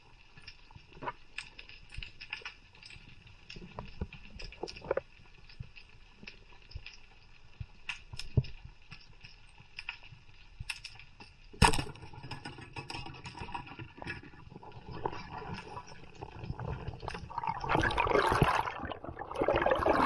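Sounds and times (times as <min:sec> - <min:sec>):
underwater crackling clicks: 0:00.2 - 0:20.0.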